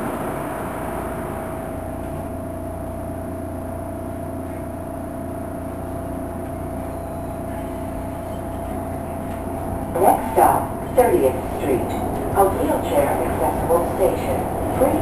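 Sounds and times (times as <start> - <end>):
steady high-pitched whine: 0.0 - 15.0
subway car rumbling on rails: 0.0 - 15.0.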